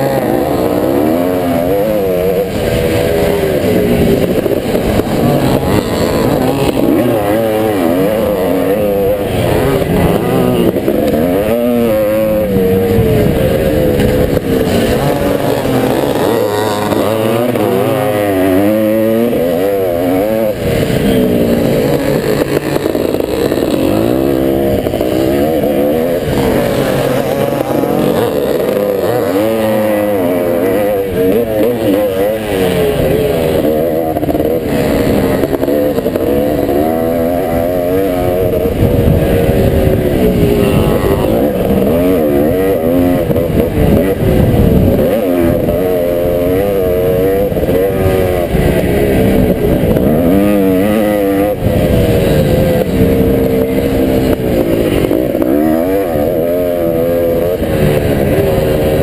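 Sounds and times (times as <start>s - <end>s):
motocross bike engine revving: 0.0s - 59.0s
wind rumble on camera: 0.0s - 59.0s.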